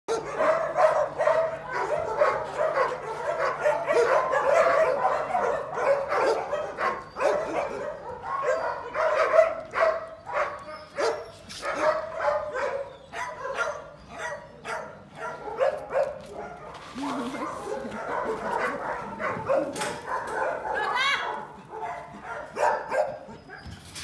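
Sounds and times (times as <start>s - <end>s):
dogs barking and whining: 0.1s - 24.0s.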